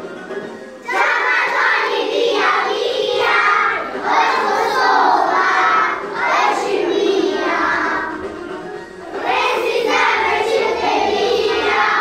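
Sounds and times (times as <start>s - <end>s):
children singing and shouting: 0.0s - 12.0s.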